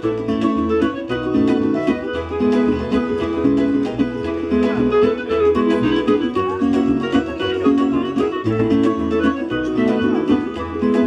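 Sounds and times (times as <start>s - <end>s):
low bass notes: 0.0s - 11.0s
plucked string instruments: 0.0s - 11.0s.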